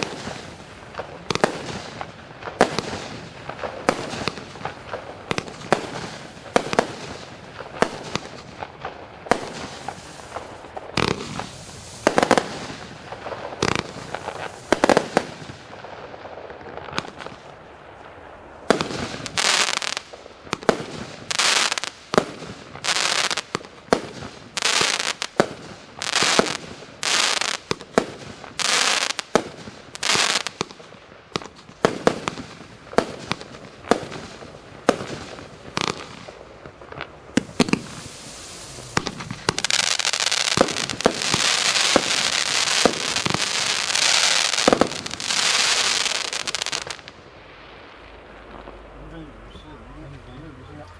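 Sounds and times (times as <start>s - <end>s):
fireworks cracks and bangs: 0.0s - 50.9s
fireworks hissing bursts: 0.0s - 50.9s.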